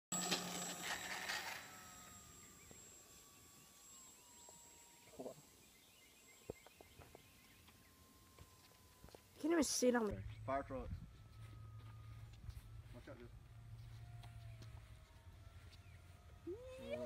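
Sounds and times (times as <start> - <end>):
model plane motor whining: 0.1 - 17.0.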